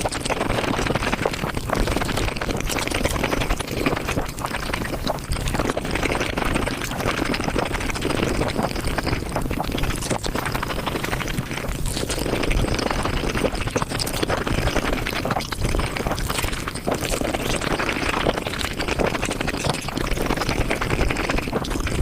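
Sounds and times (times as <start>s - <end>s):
chewing and mouth clicks: 0.0s - 22.0s.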